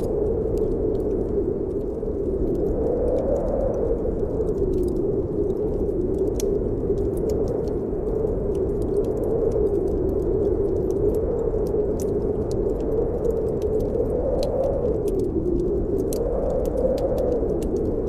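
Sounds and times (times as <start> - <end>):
fire crackling and popping: 0.0 - 18.0
wind howling: 0.0 - 18.0.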